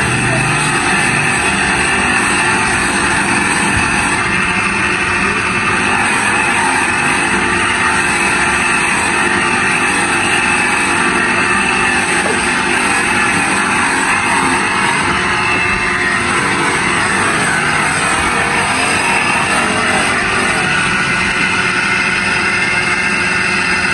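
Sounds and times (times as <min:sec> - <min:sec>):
buffing wheel polishing plastic: 0:00.0 - 0:23.9.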